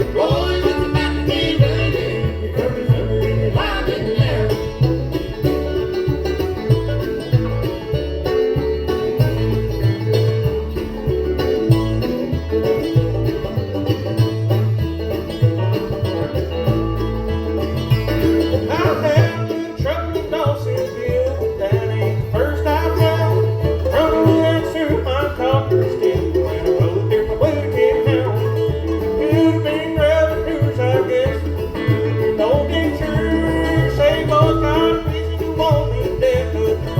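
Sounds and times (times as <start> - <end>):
banjo picking: 0.0 - 36.9
bending lead melody: 0.0 - 36.9
bluegrass band playing: 0.0 - 36.9.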